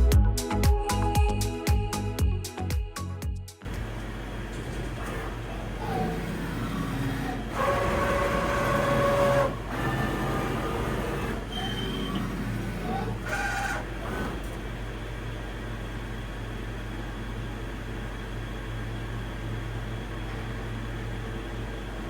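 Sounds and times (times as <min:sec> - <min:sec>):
grinding machine humming: 0:03.6 - 0:22.0
machine whine: 0:03.6 - 0:22.0.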